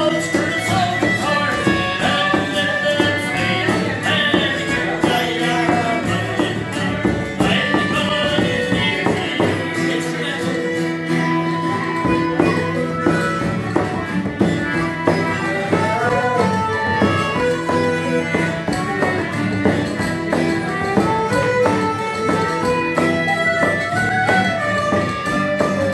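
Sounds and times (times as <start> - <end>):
frame drum steady rhythm: 0.0 - 25.9
stringed instruments playing a tune: 0.0 - 25.9.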